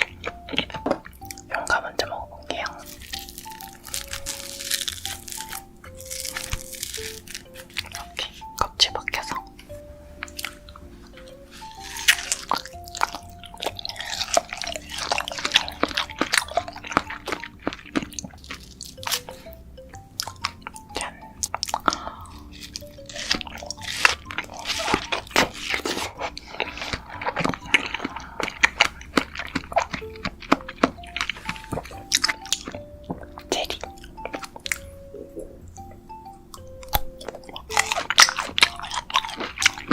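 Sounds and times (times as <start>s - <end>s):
crunching and chewing fruit: 0.0s - 39.9s
soft background music: 0.0s - 39.9s.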